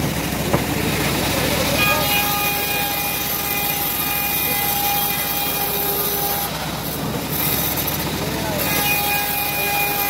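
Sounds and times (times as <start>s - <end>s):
sawmill rumble: 0.0s - 10.0s
band saw blade whining: 0.8s - 10.0s.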